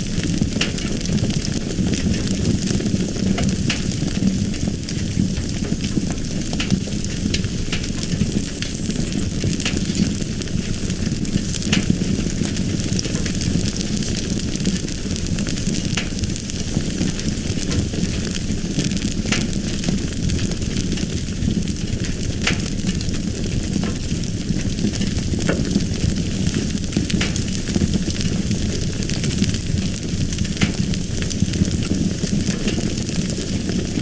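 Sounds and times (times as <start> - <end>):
fire crackling and popping: 0.0 - 34.0.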